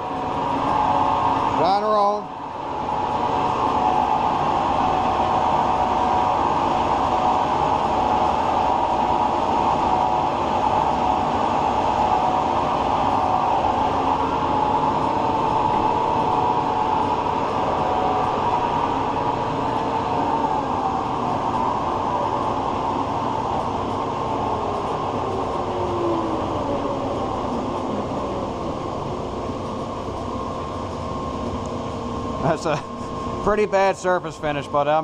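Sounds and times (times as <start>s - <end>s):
lathe mechanical drone: 0.0s - 35.0s.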